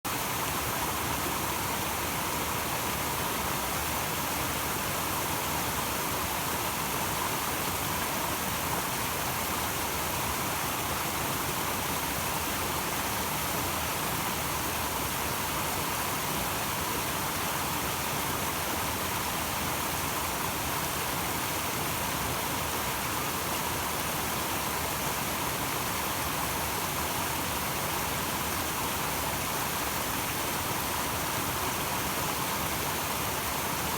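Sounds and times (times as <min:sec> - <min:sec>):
waterfall rushing over boulders: 0:00.1 - 0:33.9.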